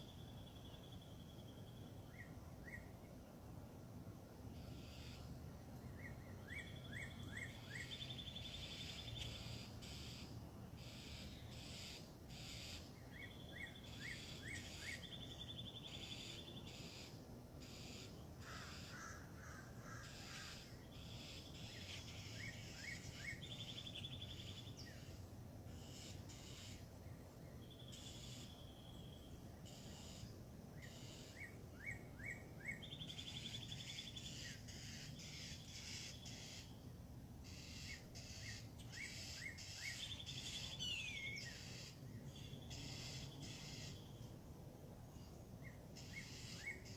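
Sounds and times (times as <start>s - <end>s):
wild birds singing and calling: 0.0s - 3.6s, 4.3s - 46.9s.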